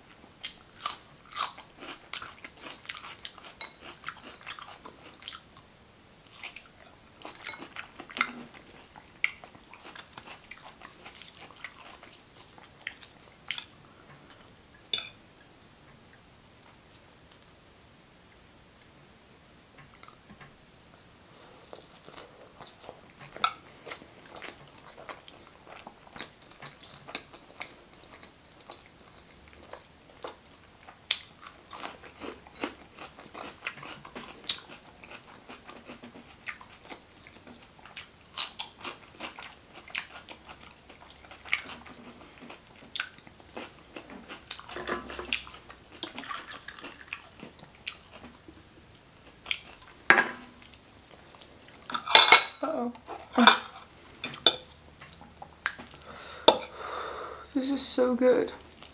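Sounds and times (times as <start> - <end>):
person chewing food: 0.4 - 15.0, 21.3 - 52.2, 53.0 - 57.2, 58.6 - 58.9.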